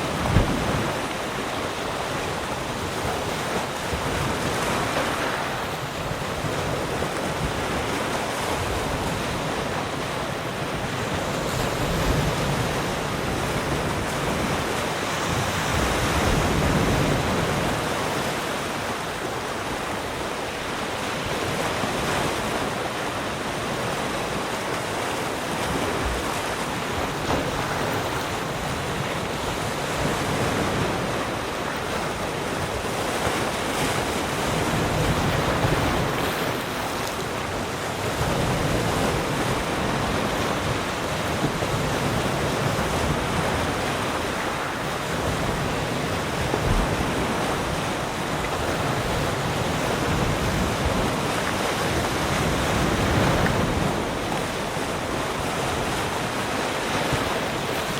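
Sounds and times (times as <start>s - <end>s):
ocean waves breaking: 0.0s - 57.9s
wind: 0.0s - 57.9s.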